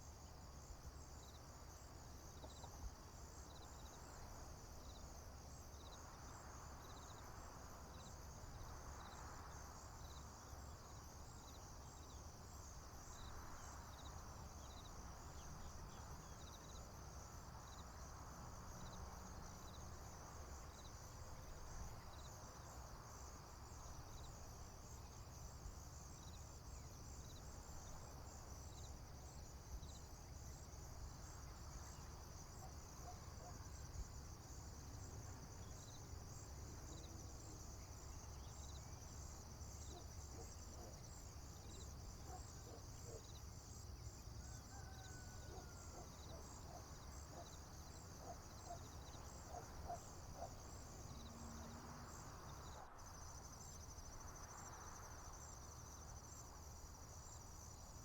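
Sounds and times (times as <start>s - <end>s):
crickets and insects trilling: 0.1s - 58.0s.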